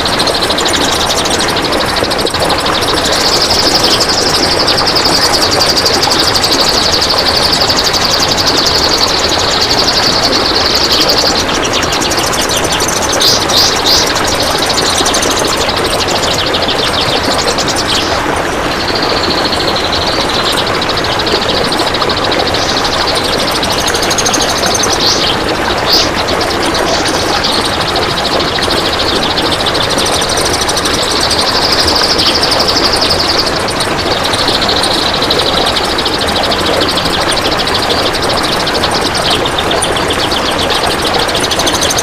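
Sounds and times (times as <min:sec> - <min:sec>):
songbird rapid trills: 0:00.0 - 0:42.0.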